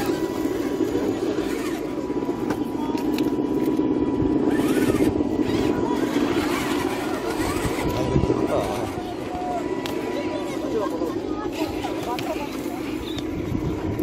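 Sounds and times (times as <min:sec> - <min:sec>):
electric motor whirring: 0:00.0 - 0:13.4.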